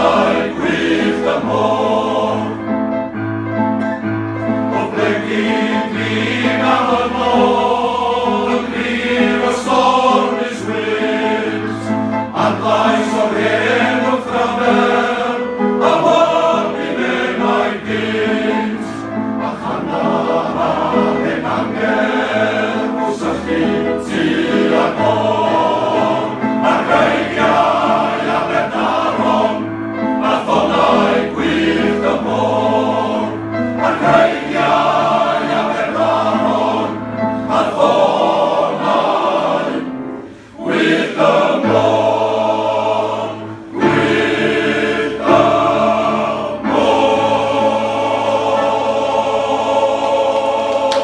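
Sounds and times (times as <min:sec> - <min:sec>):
men's choir singing: 0:00.0 - 0:51.0.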